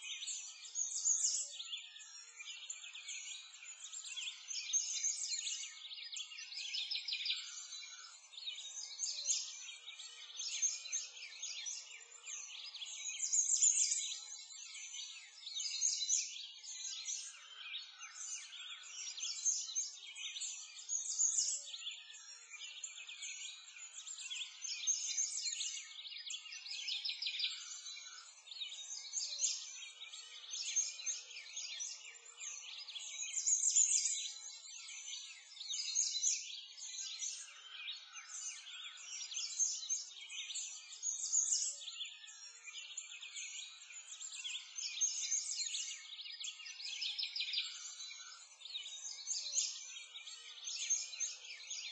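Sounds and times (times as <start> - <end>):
songbirds chirping and trilling: 0.0 - 51.9.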